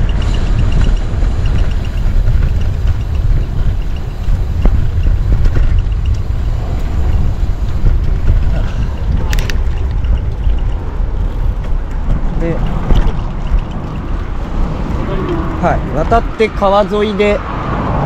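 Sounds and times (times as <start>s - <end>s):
bicycle road rumble: 0.0s - 18.0s
wind buffeting microphone: 0.0s - 18.0s.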